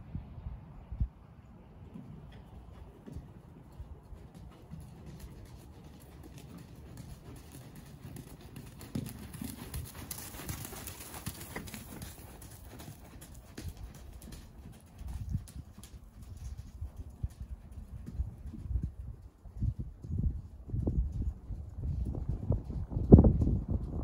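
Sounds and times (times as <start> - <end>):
hoofbeats on sand: 1.8 - 24.0.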